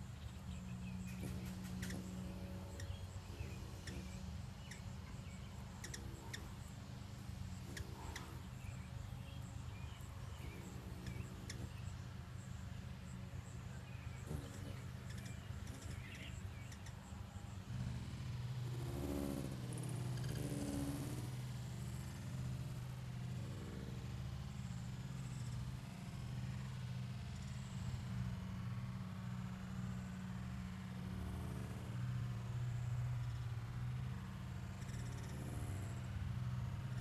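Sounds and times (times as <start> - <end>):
small birds chirping: 0.0 - 37.0
steady low hum: 0.0 - 37.0.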